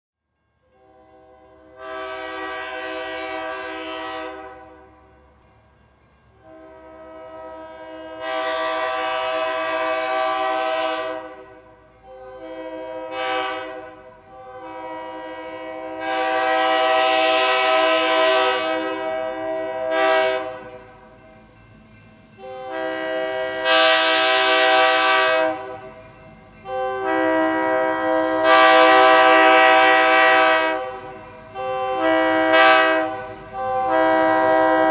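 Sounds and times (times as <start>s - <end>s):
locomotive air horn blasts: 0.7s - 5.0s, 6.4s - 21.0s, 22.4s - 26.0s, 26.6s - 34.9s.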